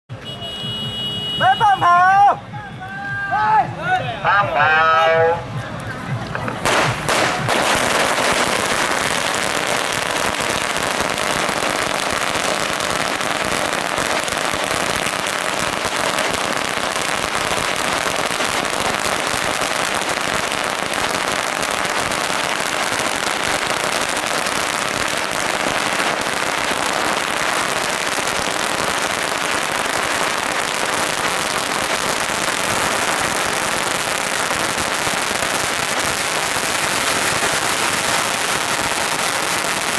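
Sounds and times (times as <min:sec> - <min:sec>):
firecrackers crackling: 0:00.2 - 0:39.9.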